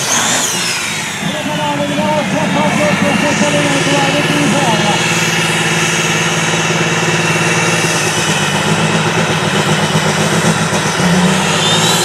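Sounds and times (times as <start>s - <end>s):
diesel truck engine at high revs: 0.0s - 12.0s
tires spinning on pavement: 0.0s - 12.0s.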